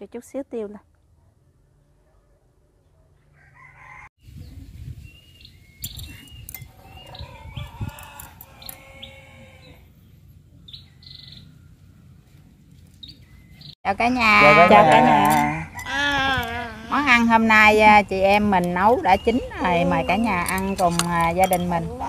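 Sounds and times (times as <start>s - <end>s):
small birds chirping: 4.2s - 22.0s.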